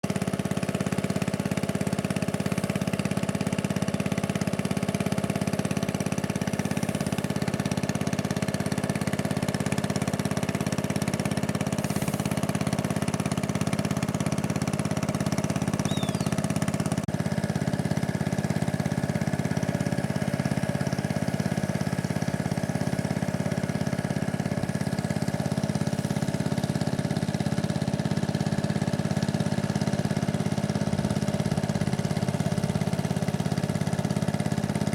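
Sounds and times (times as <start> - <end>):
motorboat engine droning: 0.0 - 34.9.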